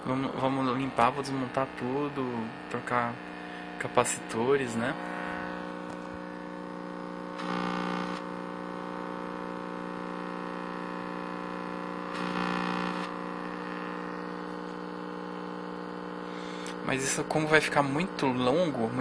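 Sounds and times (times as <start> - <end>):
buzzy electrical hum: 0.0 - 19.0.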